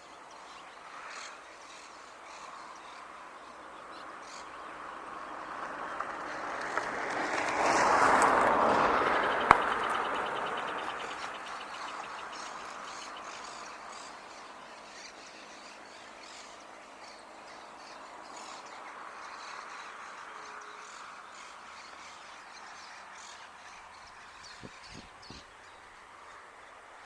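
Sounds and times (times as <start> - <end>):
birds chirping: 0.0 - 27.0
traffic noise: 0.0 - 27.0.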